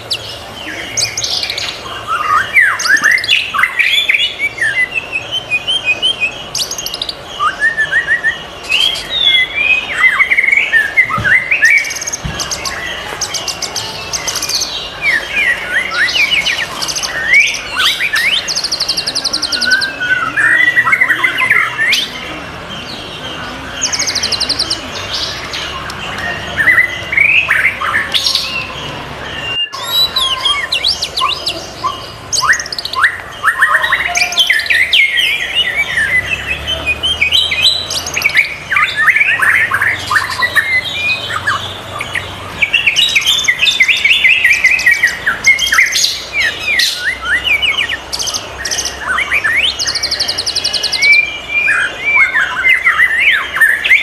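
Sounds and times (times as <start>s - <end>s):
bird singing whistled notes: 0.0s - 54.0s.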